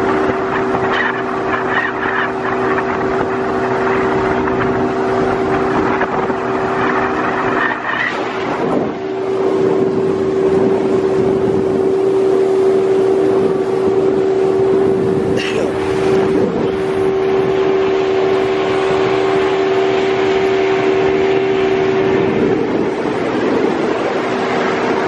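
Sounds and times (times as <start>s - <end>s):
boat wake rushing: 0.0s - 25.0s
outboard motor whine: 0.0s - 25.0s
wind on microphone: 0.0s - 25.0s.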